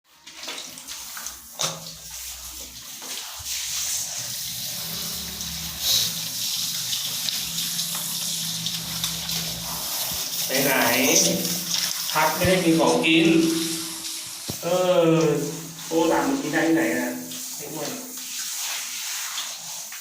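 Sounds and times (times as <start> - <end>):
running water splashing: 0.1 - 20.0.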